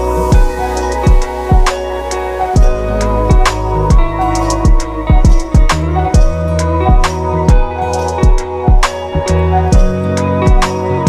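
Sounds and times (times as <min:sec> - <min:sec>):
background music with kick drum and bass: 0:00.0 - 0:11.0.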